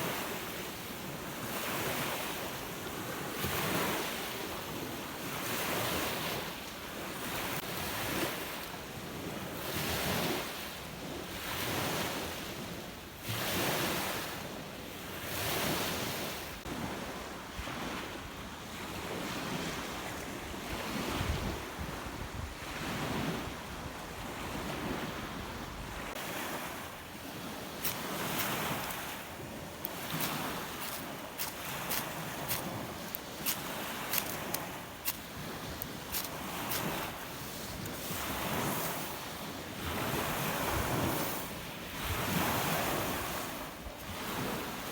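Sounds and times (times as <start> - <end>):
waves breaking on shore: 0.0 - 44.9.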